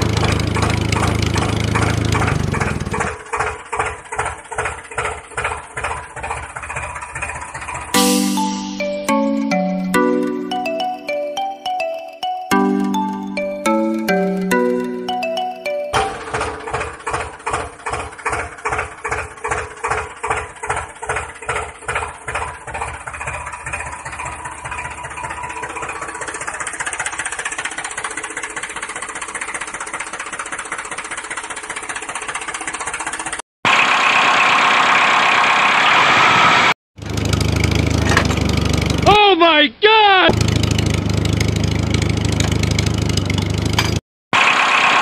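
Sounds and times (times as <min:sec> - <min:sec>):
tractor engine chugging: 0:00.0 - 0:11.5, 0:12.6 - 0:36.4, 0:37.0 - 0:39.6, 0:40.3 - 0:45.0.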